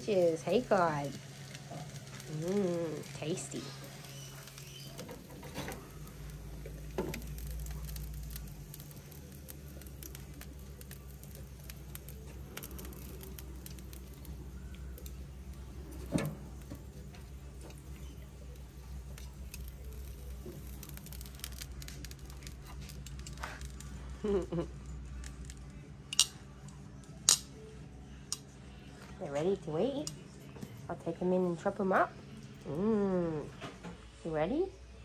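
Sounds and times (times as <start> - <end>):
sausages sizzling on a barbecue: 0.0 - 30.6, 32.5 - 33.5
steady low hum: 0.0 - 35.0.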